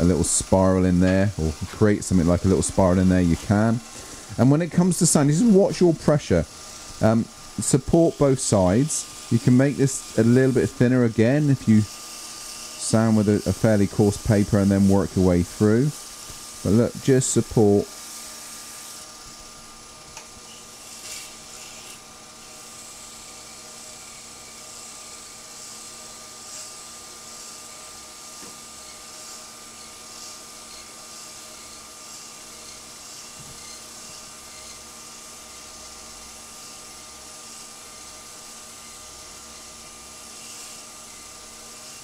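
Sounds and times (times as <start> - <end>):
sandpaper hissing on spinning wood: 0.0 - 42.0
wood lathe humming: 0.0 - 42.0.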